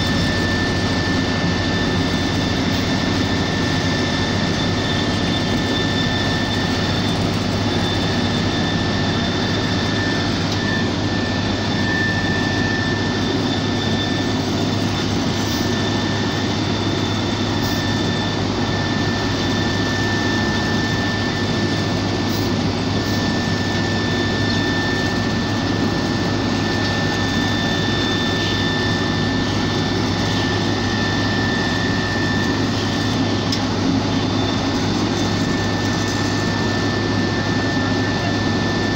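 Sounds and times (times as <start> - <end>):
diesel machinery engine drone: 0.0 - 38.9
high whine: 0.0 - 38.9.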